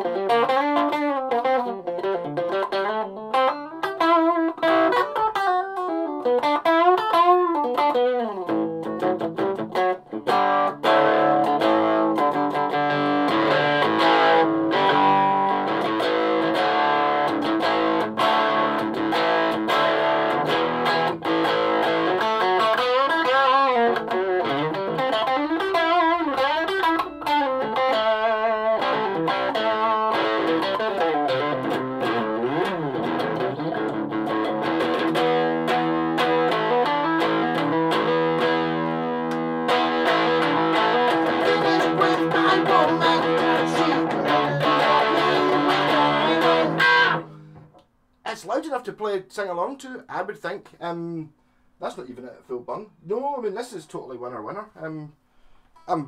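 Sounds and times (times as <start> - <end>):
distorted electric guitar: 0.0 - 47.8.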